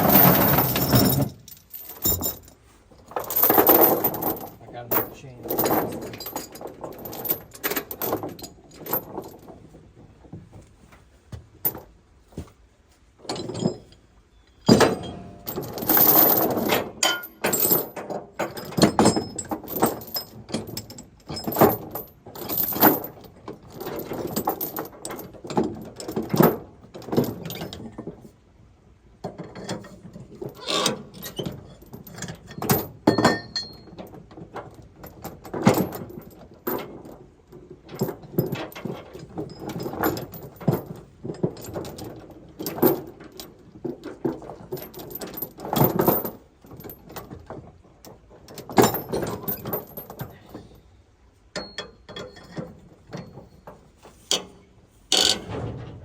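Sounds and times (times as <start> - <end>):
steel chain clinking and clanking: 0.0 - 9.7, 13.2 - 28.2, 29.2 - 50.8, 51.5 - 56.0.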